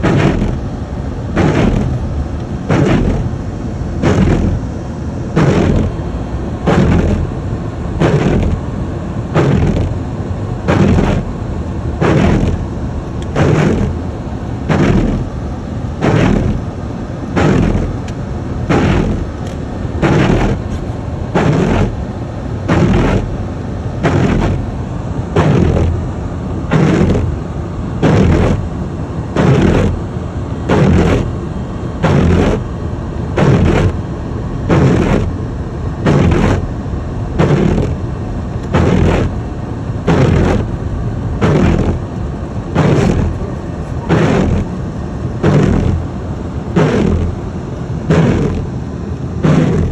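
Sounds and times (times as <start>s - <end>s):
road and engine noise in car: 0.0s - 49.9s
windshield wipers sweeping: 0.0s - 49.9s.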